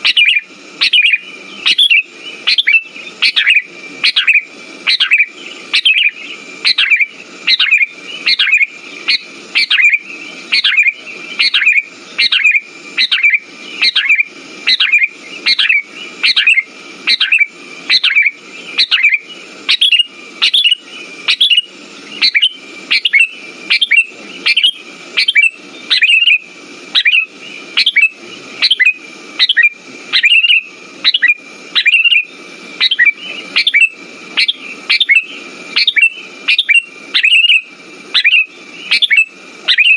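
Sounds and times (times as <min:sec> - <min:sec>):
bulbul calls: 0:00.0 - 0:39.9.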